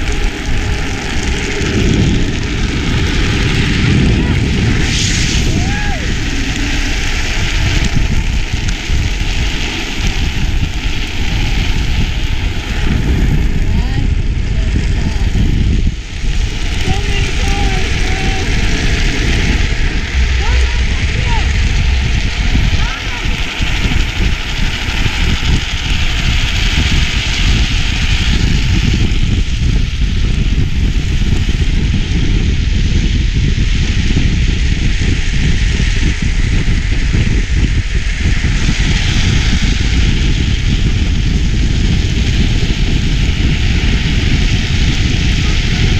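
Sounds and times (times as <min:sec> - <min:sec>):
plastic wheels sliding on asphalt: 0:00.0 - 0:45.9
wind buffeting microphone: 0:00.0 - 0:45.9.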